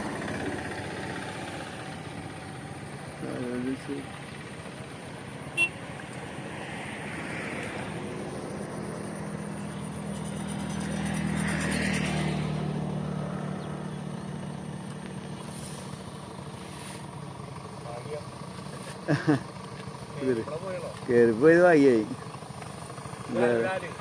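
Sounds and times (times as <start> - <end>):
vehicle engine passing: 0.0 - 24.0.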